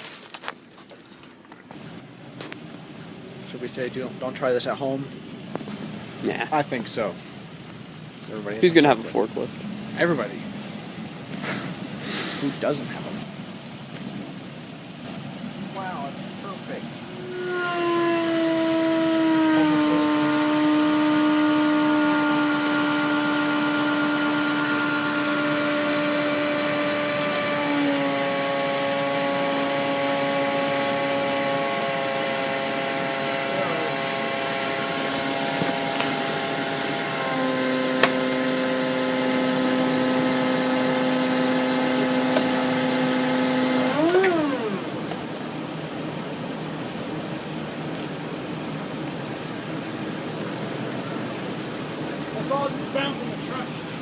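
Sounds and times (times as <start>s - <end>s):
forklift engine whining: 5.0s - 54.0s.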